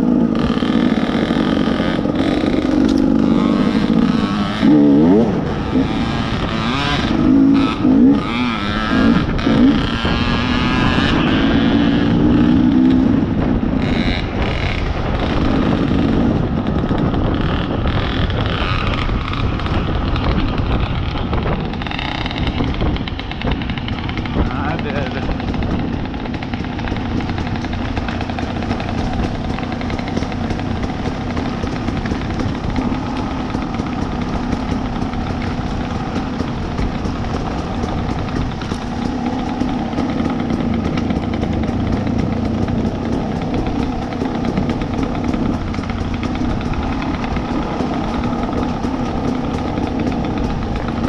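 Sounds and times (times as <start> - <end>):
two-stroke dirt bike engine running: 0.0 - 51.0.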